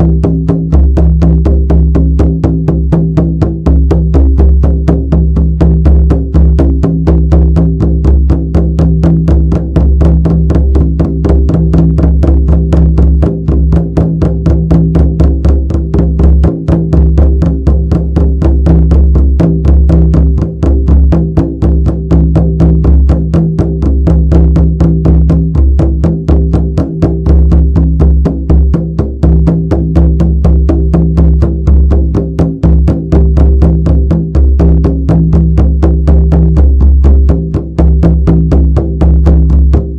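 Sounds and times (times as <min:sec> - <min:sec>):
frame drum beaten rapidly: 0:00.0 - 0:39.9.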